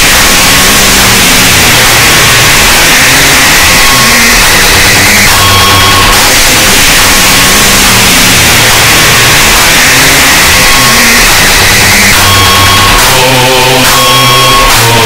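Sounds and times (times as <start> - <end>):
distorted dubstep synth bass: 0.0 - 15.0.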